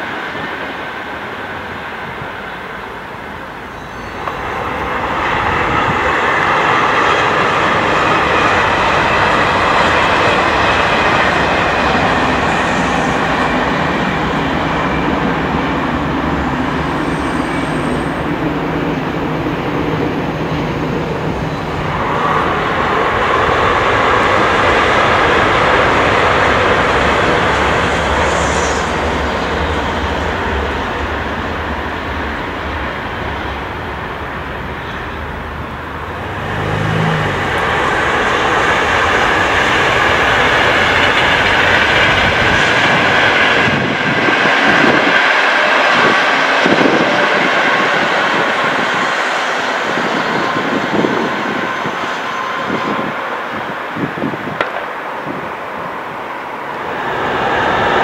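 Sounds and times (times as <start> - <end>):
high-speed trains passing: 0.0 - 58.0.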